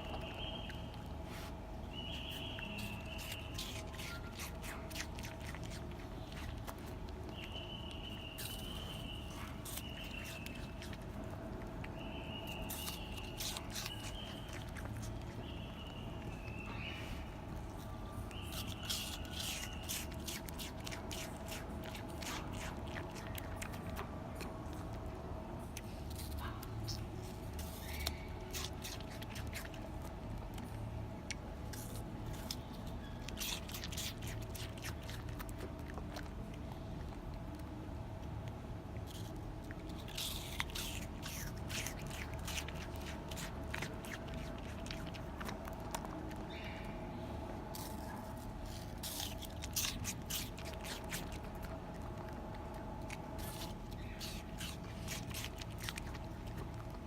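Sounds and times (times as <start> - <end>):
animal crunching apple: 0.0 - 57.0.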